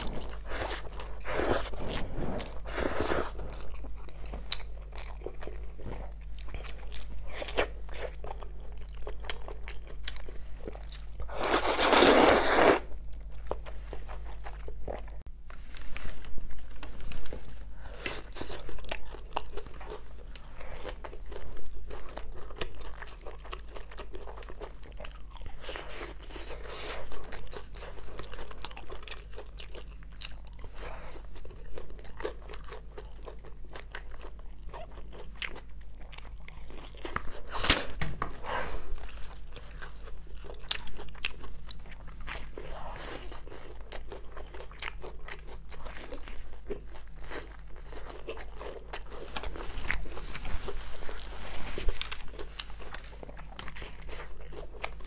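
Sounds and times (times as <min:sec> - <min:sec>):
wet chewing and crunching: 0:00.0 - 0:15.3, 0:18.0 - 0:55.0.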